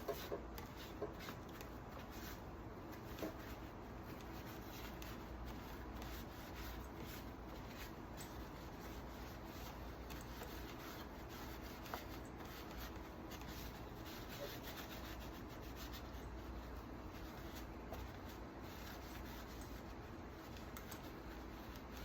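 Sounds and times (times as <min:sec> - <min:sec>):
faint rubbing and scrubbing: 0:00.0 - 0:22.0.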